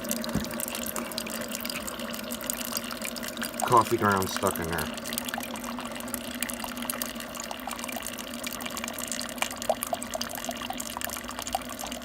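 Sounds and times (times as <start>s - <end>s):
coffee maker humming: 0.0s - 12.0s
coffee trickling into cup: 0.0s - 12.0s.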